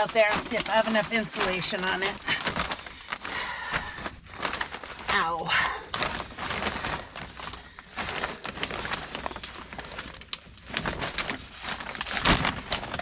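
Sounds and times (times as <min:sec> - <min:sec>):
person crawling rustling and scraping: 0:00.0 - 0:13.0.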